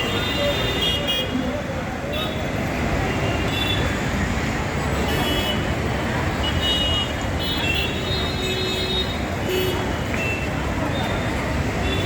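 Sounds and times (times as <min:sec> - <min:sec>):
road traffic din: 0:00.0 - 0:12.0.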